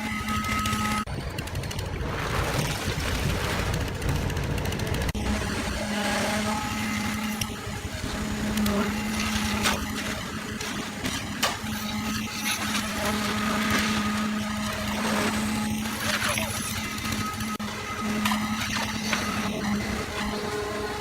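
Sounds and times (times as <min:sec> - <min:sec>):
small engine humming: 0:03.4 - 0:21.0.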